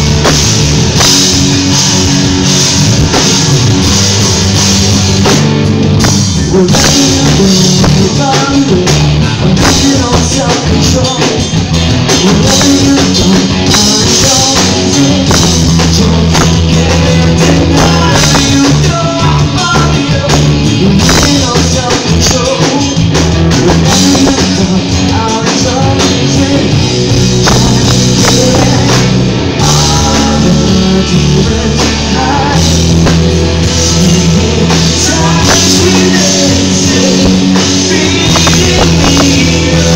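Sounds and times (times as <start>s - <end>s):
bass guitar: 0.0s - 39.9s
distorted electric guitars: 0.0s - 39.9s
drum kit beat: 0.0s - 39.9s.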